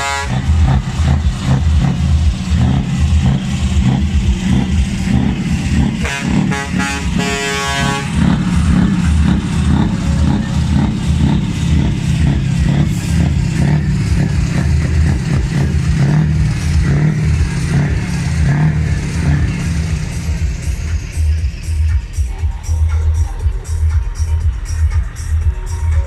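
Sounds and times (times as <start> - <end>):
truck horn: 0.0 - 21.9
truck engine rumbling: 0.0 - 26.0.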